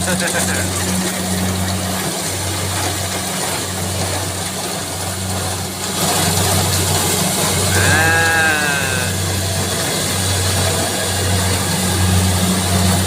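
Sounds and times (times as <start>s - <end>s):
harvester engine running: 0.0s - 13.0s.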